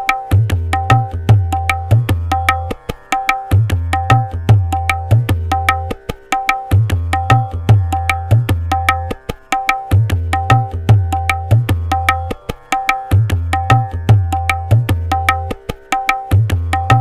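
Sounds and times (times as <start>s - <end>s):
tabla ringing strokes: 0.0s - 17.0s.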